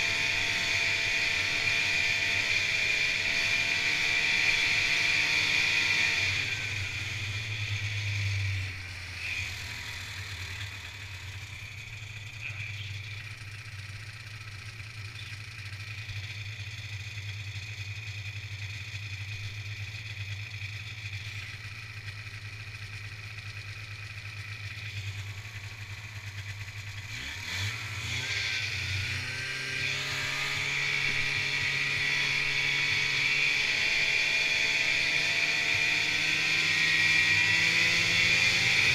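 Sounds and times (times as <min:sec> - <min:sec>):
snowmobile engine idling and revving: 0:00.0 - 0:38.9.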